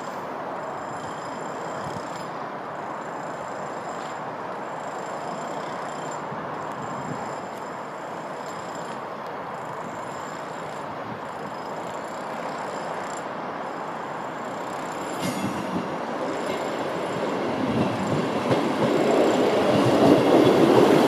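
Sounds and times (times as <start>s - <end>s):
train engine and wheels rumbling: 0.0s - 21.0s.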